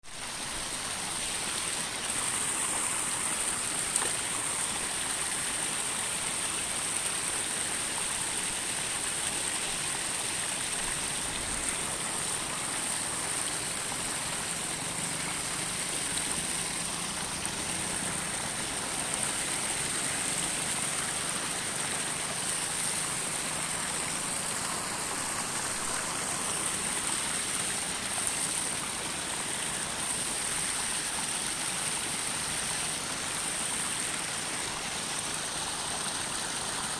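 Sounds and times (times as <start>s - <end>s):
flowing water rushing: 0.0s - 36.9s.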